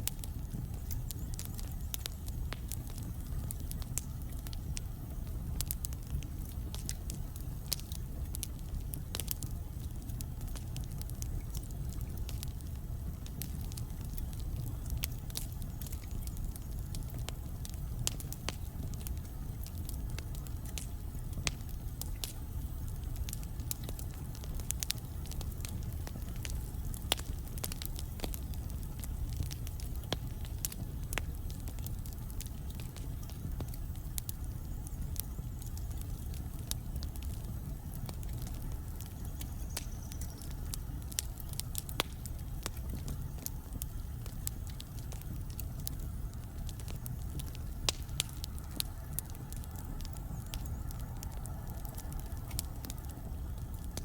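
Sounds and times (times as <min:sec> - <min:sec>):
fire rumbling: 0:00.0 - 0:54.0
logs crackling and popping: 0:00.0 - 0:54.0.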